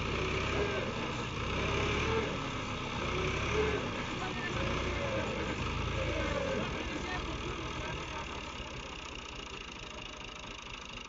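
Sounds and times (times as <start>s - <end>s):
tractor engine rumble: 0.0s - 11.0s.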